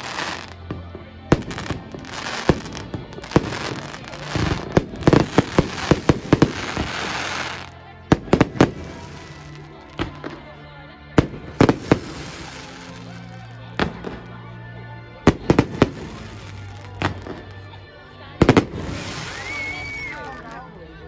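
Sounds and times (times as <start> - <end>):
crackling fireworks: 0.0 - 10.5, 11.2 - 14.4, 15.2 - 17.6, 18.4 - 20.6.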